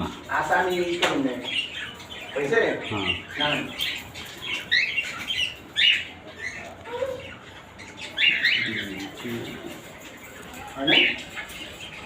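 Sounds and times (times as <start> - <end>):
cockatiels calling: 0.0 - 12.0.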